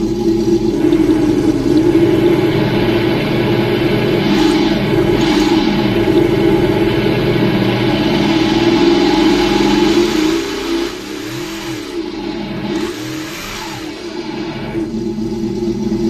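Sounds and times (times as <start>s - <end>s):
synthetic engine note from speaker: 0.0s - 16.0s.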